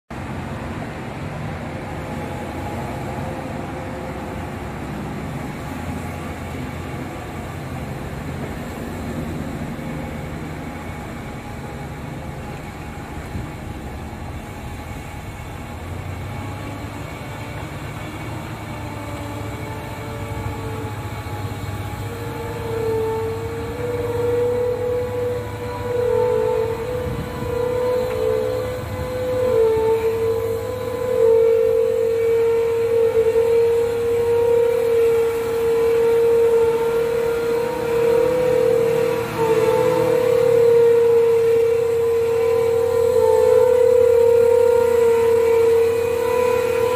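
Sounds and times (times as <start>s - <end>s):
diesel truck engine rumble: 0.1s - 46.9s
wavering whine: 0.1s - 46.9s.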